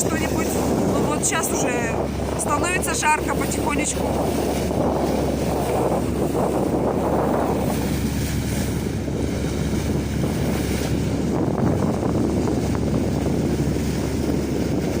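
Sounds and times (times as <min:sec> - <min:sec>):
sea water washing: 0:00.0 - 0:15.0
wind rumbling on microphone: 0:00.0 - 0:15.0.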